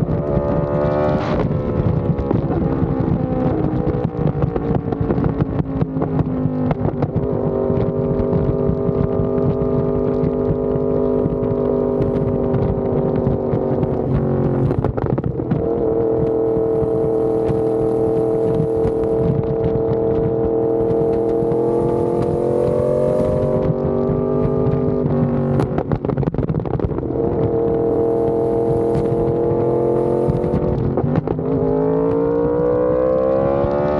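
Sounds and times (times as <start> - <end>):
motorcycle engine: 0.0 - 33.9.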